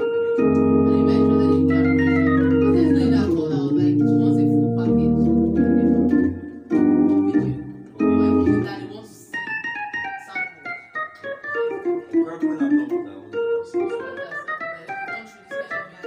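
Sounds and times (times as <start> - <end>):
electronic keyboard organ chords: 0.0 - 16.0.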